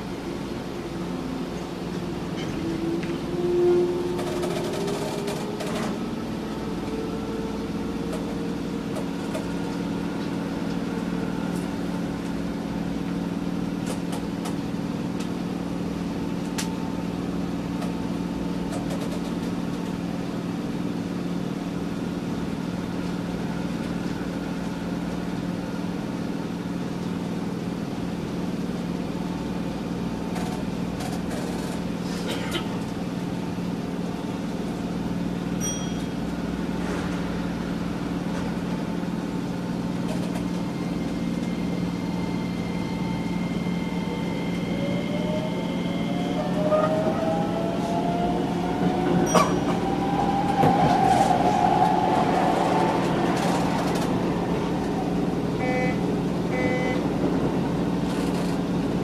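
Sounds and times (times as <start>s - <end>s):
low hum of train equipment: 0.0s - 59.0s.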